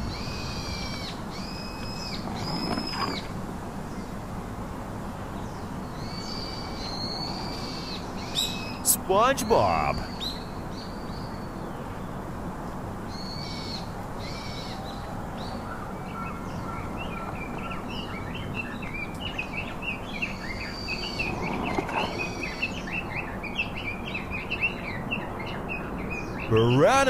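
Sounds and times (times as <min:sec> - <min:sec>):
wild birds chirping: 0:00.0 - 0:04.2, 0:05.2 - 0:27.0.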